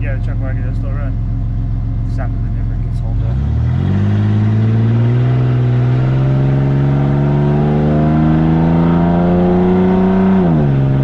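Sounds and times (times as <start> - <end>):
vehicle engine accelerating: 0.0 - 11.0.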